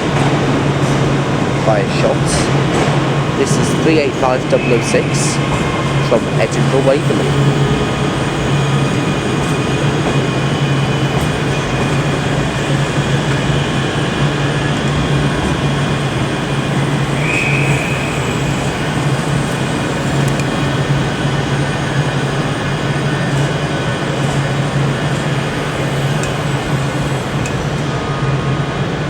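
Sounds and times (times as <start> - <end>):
electric train humming: 0.0 - 29.0.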